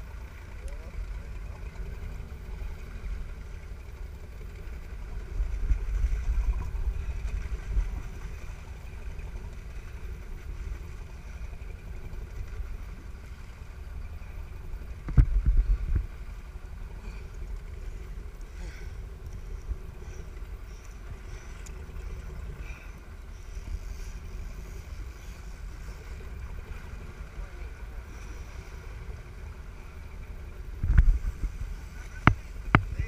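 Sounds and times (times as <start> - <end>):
low rumbles on microphone: 0.0 - 28.1, 28.8 - 33.0
boat engine running: 0.0 - 33.0.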